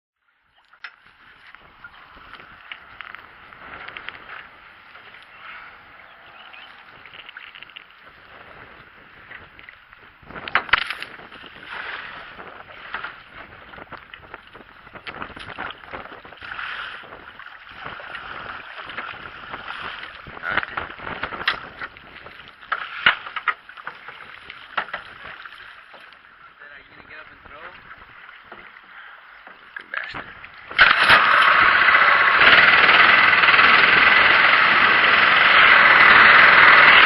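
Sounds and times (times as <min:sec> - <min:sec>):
water splashing against hull: 0:00.3 - 0:37.0
water rushing along boat hull: 0:00.4 - 0:37.0.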